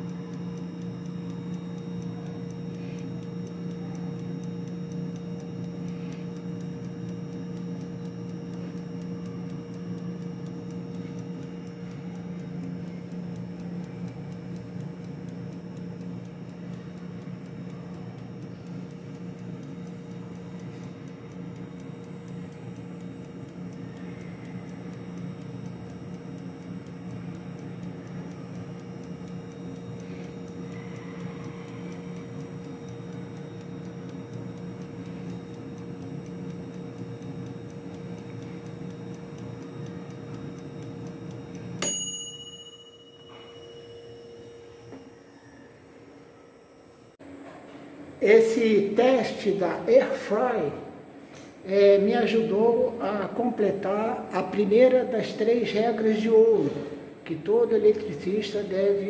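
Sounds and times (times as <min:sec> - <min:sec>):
clockwork timer ticking: 0:00.0 - 0:43.1, 0:51.7 - 0:59.0
air fryer fan hum: 0:00.0 - 0:59.0.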